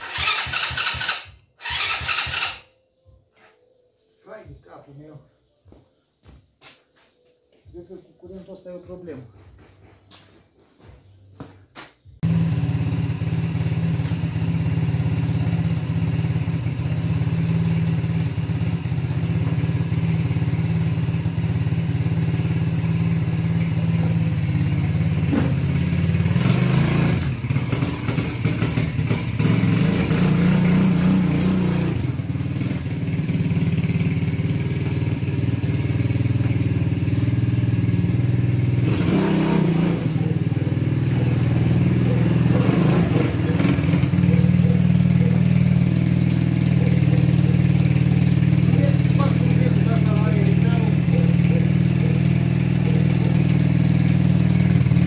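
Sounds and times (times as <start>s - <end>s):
atv engine idling and revving: 0.0s - 2.7s, 12.2s - 55.0s.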